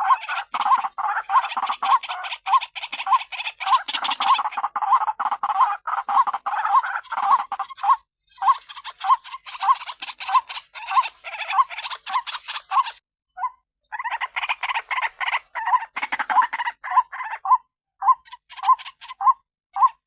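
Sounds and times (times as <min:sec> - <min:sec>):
waterhen harsh croaking calls: 0:00.0 - 0:13.0, 0:13.9 - 0:20.0.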